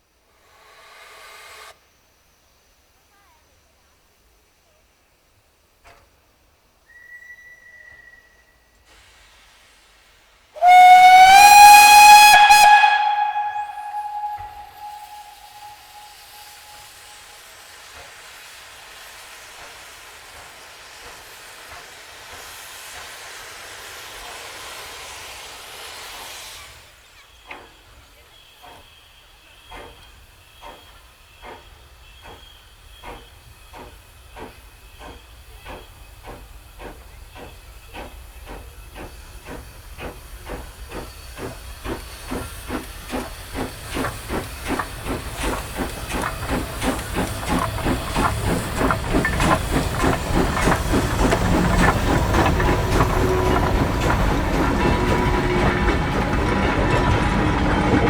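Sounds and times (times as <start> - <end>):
steam locomotive chuffing: 0.3 - 1.9, 8.8 - 58.0.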